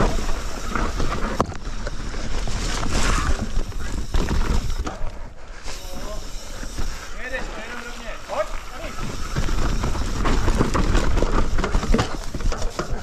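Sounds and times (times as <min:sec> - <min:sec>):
bike rattling: 0:00.0 - 0:13.0
bike tyres on dirt: 0:00.0 - 0:13.0.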